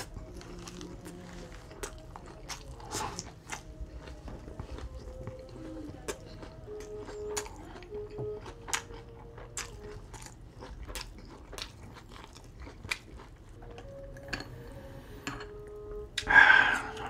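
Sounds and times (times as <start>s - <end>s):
person chewing food: 0.0s - 14.6s, 15.2s - 17.0s.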